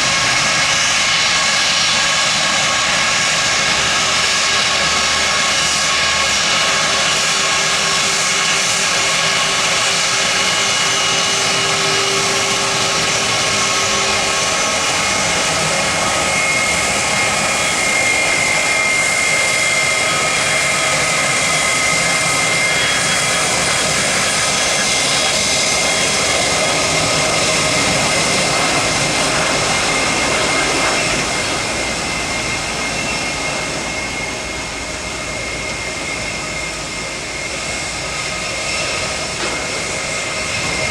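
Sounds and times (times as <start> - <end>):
high engine whine: 0.0 - 40.9
jet engines running: 0.0 - 40.9.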